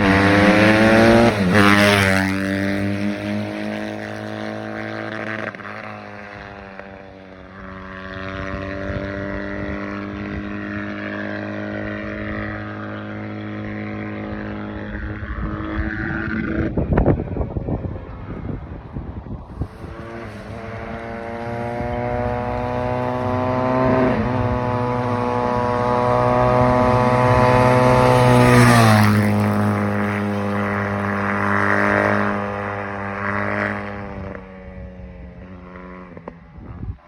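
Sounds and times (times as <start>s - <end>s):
dirt bike engine passing: 0.0s - 37.0s.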